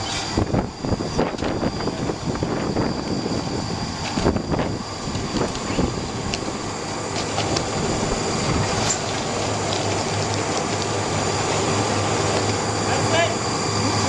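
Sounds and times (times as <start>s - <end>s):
fire truck engine humming: 0.0s - 14.0s.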